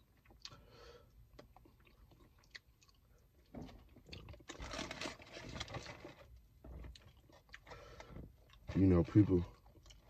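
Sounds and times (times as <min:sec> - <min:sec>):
chewing fried chicken: 0:00.0 - 0:06.2, 0:06.8 - 0:10.0.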